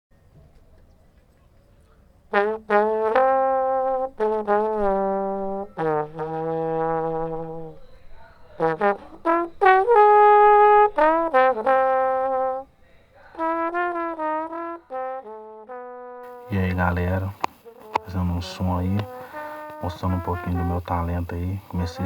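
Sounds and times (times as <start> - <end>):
slide trombone melody: 2.3 - 12.7, 13.3 - 22.0.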